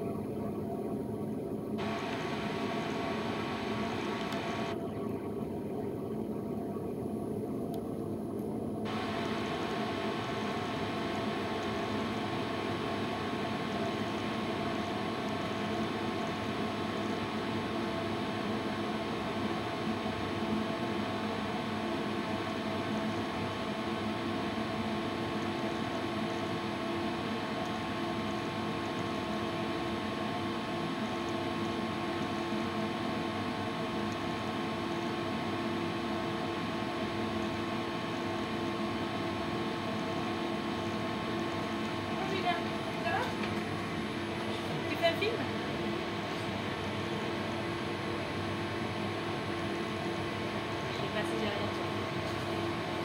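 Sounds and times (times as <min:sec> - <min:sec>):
tumble dryer hum and whir: 0:00.0 - 0:53.0.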